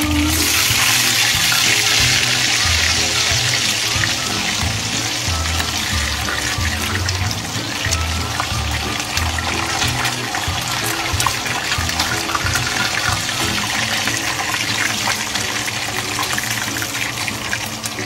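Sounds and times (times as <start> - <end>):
meat deep-frying in hot oil: 0.0 - 18.0.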